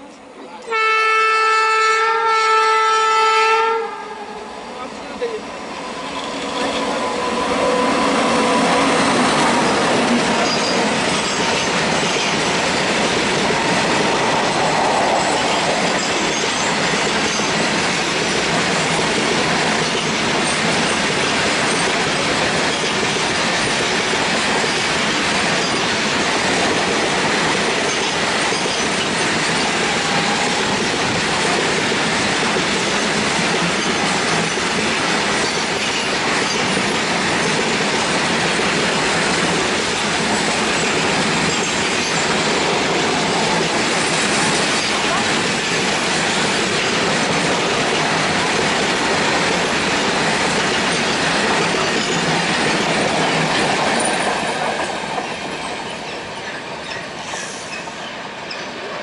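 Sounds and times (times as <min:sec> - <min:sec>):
train wheels on rails: 0:04.4 - 0:59.0.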